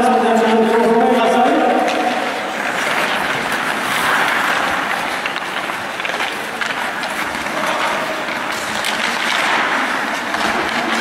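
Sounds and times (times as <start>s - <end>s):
skates scraping ice: 0.1s - 11.0s
sticks clicking on puck: 0.4s - 11.0s.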